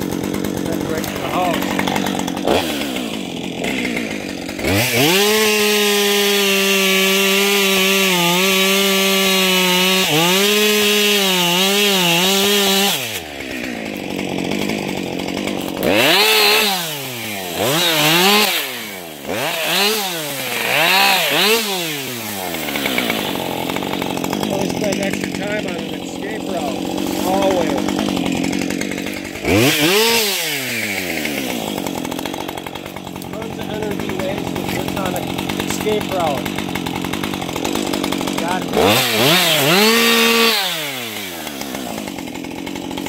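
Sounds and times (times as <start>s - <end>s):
chainsaw revving and cutting: 0.0s - 43.0s.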